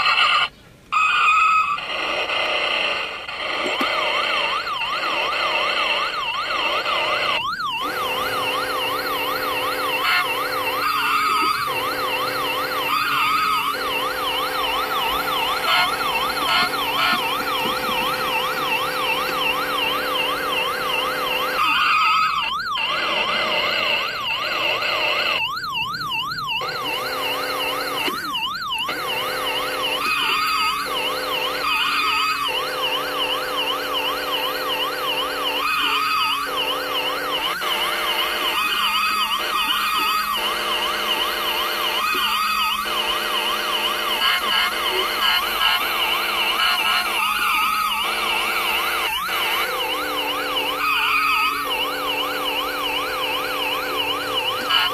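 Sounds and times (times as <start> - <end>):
toy electronic police siren: 0.0 - 54.9
steady electronic tone: 1.0 - 54.9.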